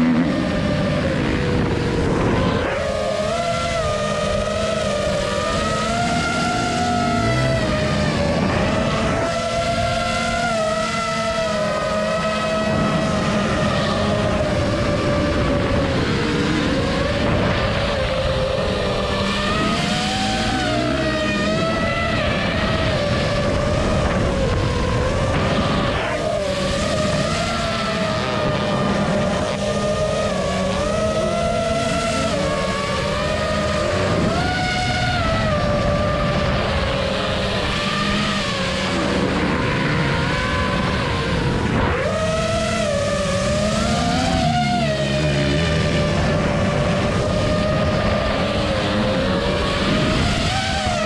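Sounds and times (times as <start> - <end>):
dirt bike engines revving: 0.0 - 51.0
drone propellers whining: 0.0 - 51.0.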